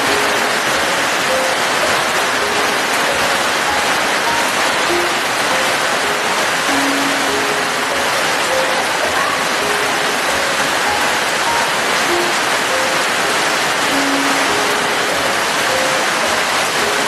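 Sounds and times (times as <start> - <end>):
rain hissing: 0.0 - 17.0
soft slow music notes: 0.0 - 17.0.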